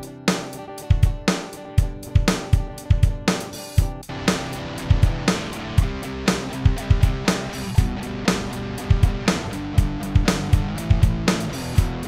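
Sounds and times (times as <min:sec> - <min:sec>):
distorted electric guitar: 0:00.0 - 0:12.0
steady drum beat: 0:00.0 - 0:12.0.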